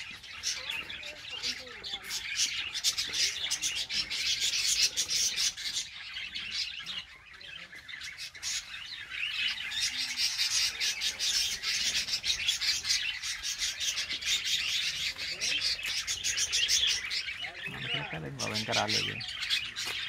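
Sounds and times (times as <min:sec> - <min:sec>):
flock of birds chattering: 0:00.0 - 0:20.0.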